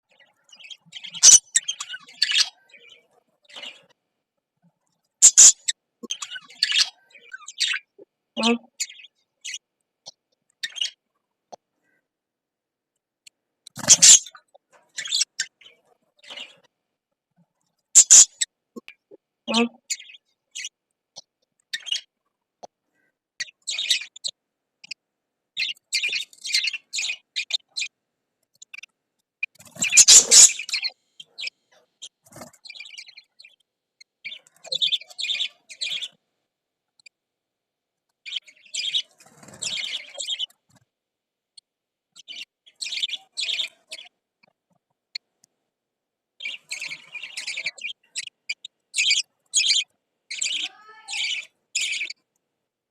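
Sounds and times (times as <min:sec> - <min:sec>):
lovebirds chirping: 0:00.1 - 0:04.0, 0:05.2 - 0:12.0, 0:13.7 - 0:16.7, 0:18.0 - 0:22.2, 0:22.9 - 0:36.2, 0:38.2 - 0:40.8, 0:42.1 - 0:45.3, 0:46.4 - 0:52.3.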